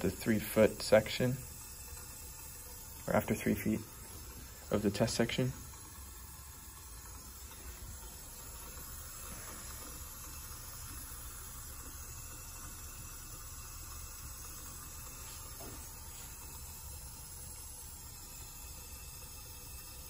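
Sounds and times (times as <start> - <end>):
steady low hiss: 0.0 - 18.8.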